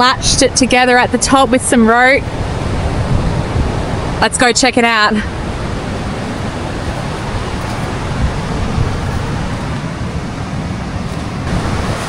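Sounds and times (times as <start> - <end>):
wind buffeting microphone: 0.0 - 12.0
surf rushing: 0.1 - 12.0.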